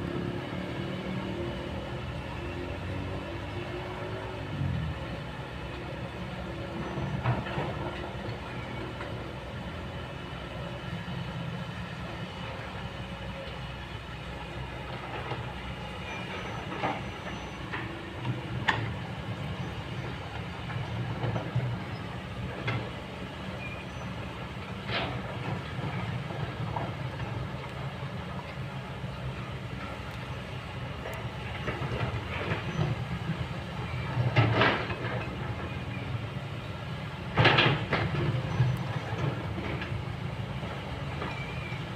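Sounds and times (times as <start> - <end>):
excavator diesel engine: 0.0 - 41.9.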